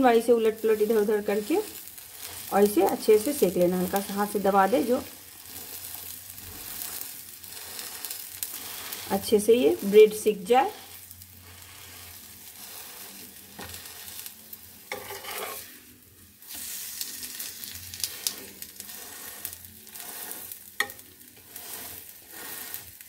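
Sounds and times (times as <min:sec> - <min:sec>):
bread sizzling in butter: 0:00.0 - 0:23.0
spatula scraping a pan: 0:00.5 - 0:23.0.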